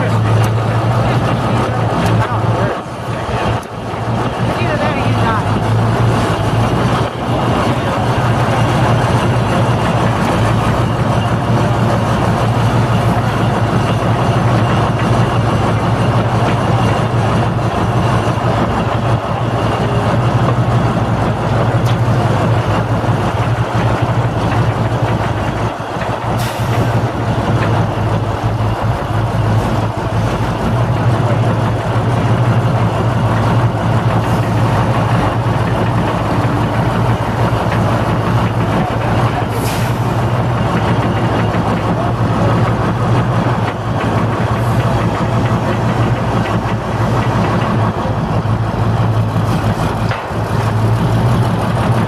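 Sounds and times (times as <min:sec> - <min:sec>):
heavy machine engines humming: 0:00.0 - 0:52.0.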